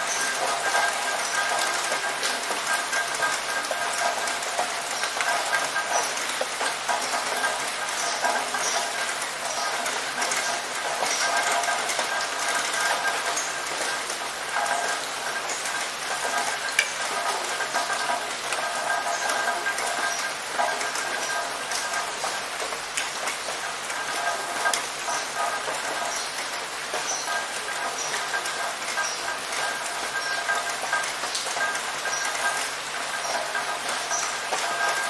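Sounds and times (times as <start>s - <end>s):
rain on a hard surface: 0.0s - 35.0s.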